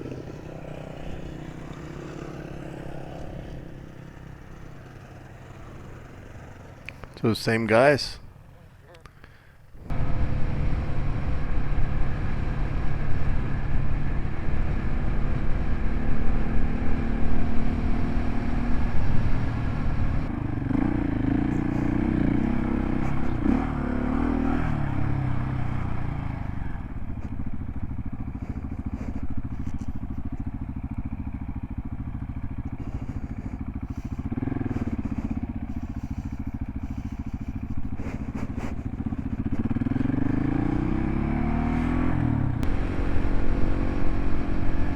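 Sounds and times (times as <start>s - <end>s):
motorcycle engine revving: 0.0s - 7.2s, 9.8s - 44.9s
wind and ride rumble: 0.0s - 44.9s.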